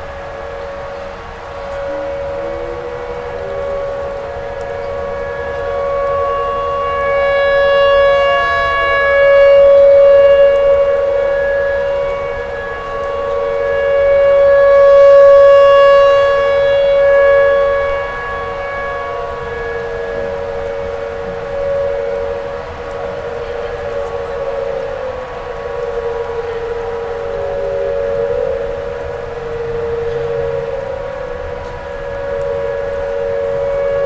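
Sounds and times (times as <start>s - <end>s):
warning siren wailing: 0.0s - 34.0s.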